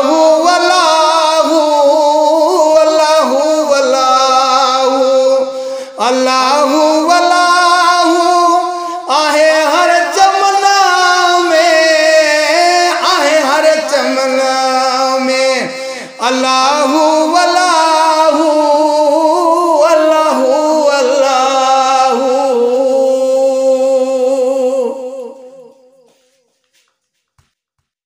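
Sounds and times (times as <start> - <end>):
man singing: 0.0 - 26.4.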